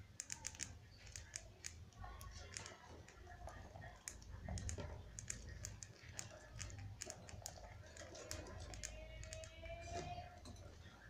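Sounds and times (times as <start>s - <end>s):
birds nibbling seeds clicking: 0.0s - 10.3s.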